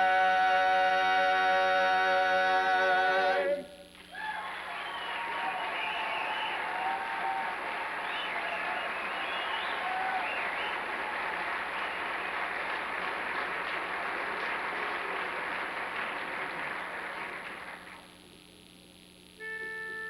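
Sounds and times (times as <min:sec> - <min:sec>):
audience applauding: 0:01.0 - 0:18.2.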